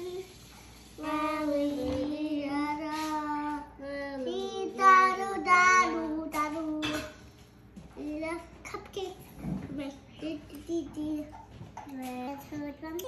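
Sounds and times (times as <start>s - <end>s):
child singing wordless tune: 0.0s - 7.2s, 8.0s - 13.0s.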